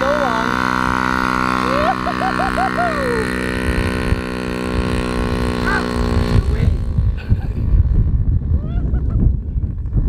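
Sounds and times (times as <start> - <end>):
dirt bike engine idling: 0.0 - 10.0.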